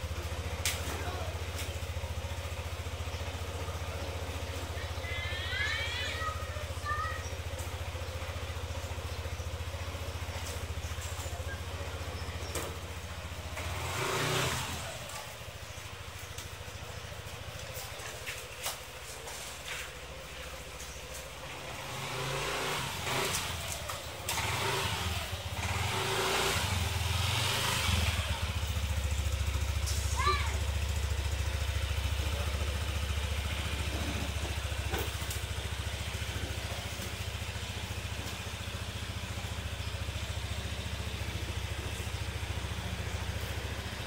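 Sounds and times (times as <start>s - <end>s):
scooter engine idling and revving: 0.0s - 44.0s.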